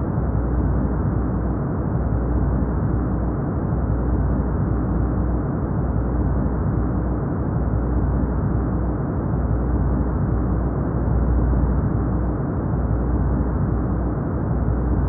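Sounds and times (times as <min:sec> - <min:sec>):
brown noise: 0:00.0 - 0:15.0.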